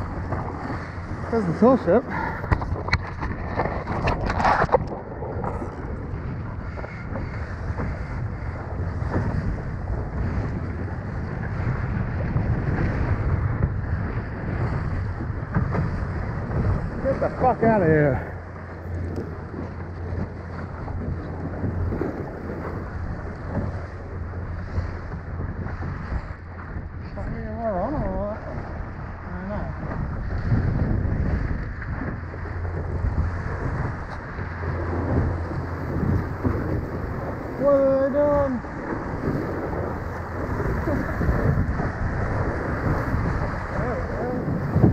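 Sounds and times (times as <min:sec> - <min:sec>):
water rushing along hull: 0:00.0 - 0:44.9
wind buffeting microphone: 0:00.0 - 0:44.9.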